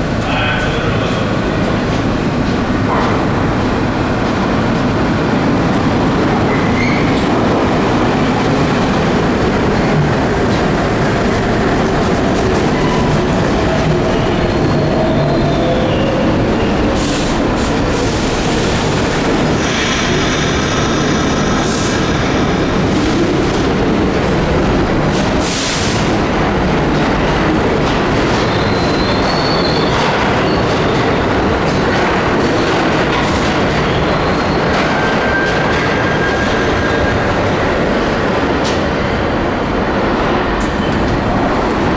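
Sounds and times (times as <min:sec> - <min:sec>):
subway train rumbling: 0:00.0 - 0:41.9.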